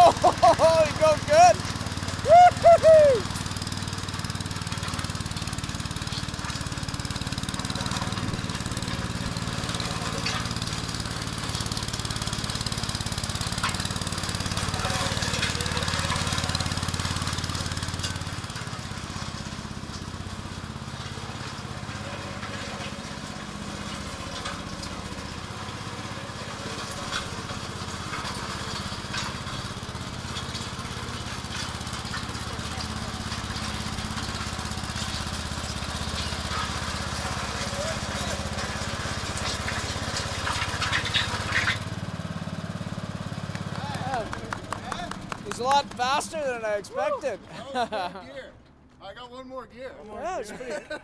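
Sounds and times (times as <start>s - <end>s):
small engine running under load: 0.0s - 48.9s.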